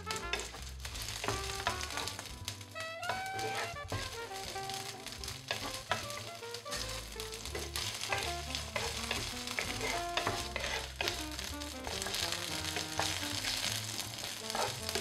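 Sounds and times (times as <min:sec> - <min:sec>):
food sizzling in hot oil: 0:00.0 - 0:15.0
light background music: 0:00.0 - 0:15.0
wooden spatula scraping pan: 0:00.0 - 0:15.0.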